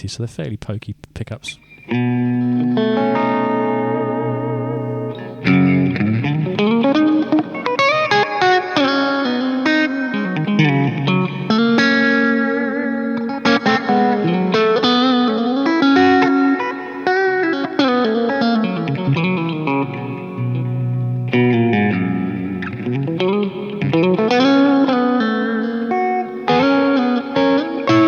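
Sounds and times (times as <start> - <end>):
clean electric guitar: 1.4 - 28.0.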